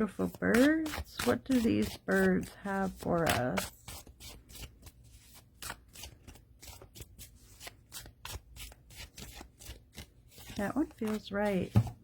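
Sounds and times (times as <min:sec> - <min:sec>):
cards being shuffled: 0:00.1 - 0:12.0.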